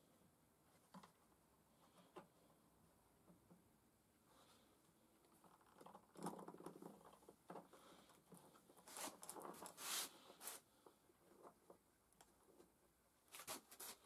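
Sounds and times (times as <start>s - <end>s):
faint clicks and rustles: 0.7s - 3.7s, 4.3s - 14.0s.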